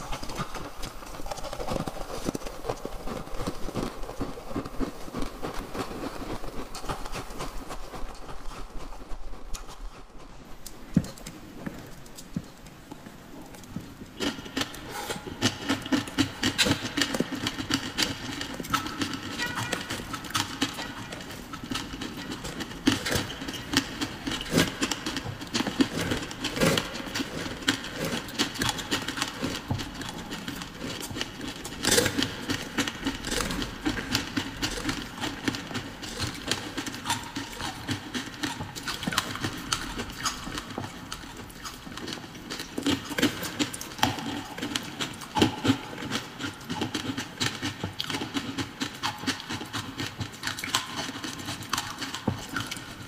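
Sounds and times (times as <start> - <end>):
ice being chewed and crunched: 0.0 - 53.0.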